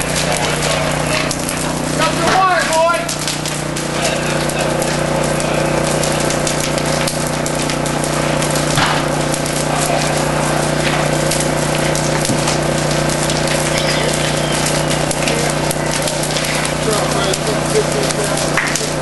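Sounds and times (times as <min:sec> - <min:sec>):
fire crackling and popping: 0:00.0 - 0:19.0
fire sharp snaps: 0:00.0 - 0:19.0
steady low hum: 0:00.0 - 0:19.0.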